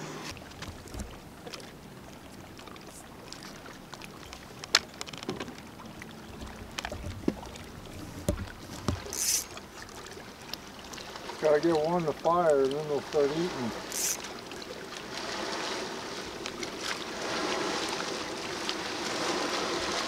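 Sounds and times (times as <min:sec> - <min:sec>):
water lapping against hull: 0:00.0 - 0:20.0.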